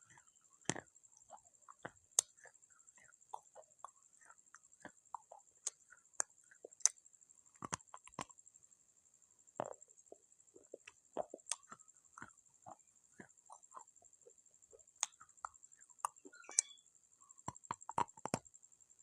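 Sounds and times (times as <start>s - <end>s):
clay pieces crunching when chewed: 0.0s - 8.4s, 9.6s - 16.8s, 17.4s - 18.5s.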